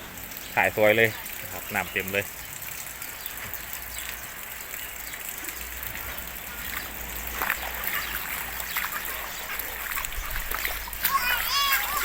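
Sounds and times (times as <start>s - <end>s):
floodwater running: 0.0s - 12.0s
heavy rain falling: 0.0s - 12.0s.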